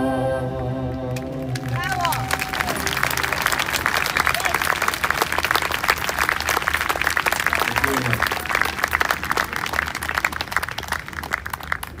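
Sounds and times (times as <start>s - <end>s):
crowd clapping: 1.2s - 12.0s.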